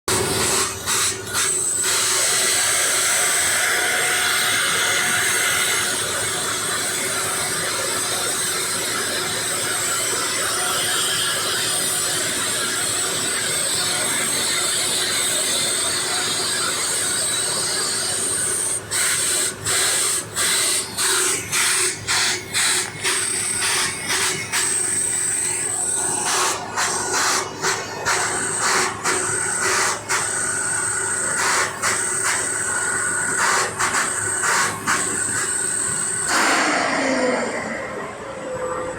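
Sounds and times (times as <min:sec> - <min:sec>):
jet turbine whine: 0:00.1 - 0:38.9.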